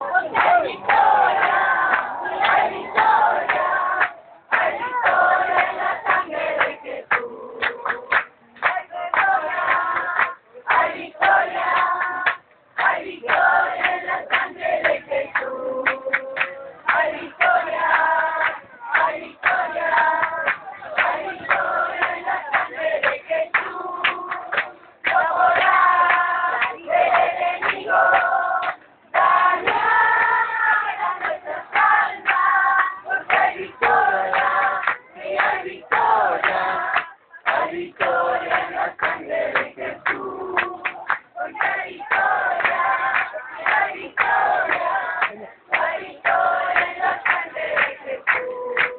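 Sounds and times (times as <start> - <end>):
crowd singing a worship song: 0.0 - 48.9
rhythmic hand clapping: 0.0 - 48.9.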